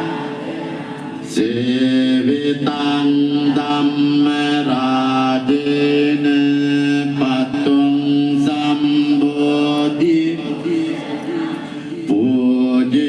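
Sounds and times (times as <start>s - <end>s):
voices chanting on held notes: 0.0s - 13.0s.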